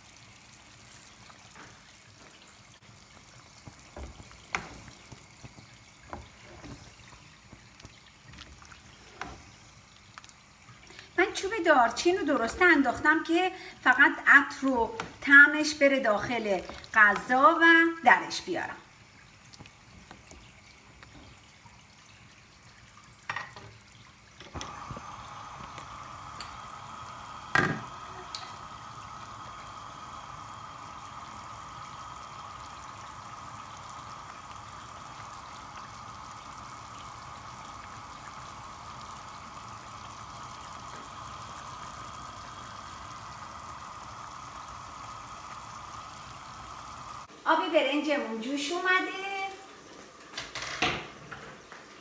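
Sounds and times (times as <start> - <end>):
stew boiling hard: 0.0 - 47.5.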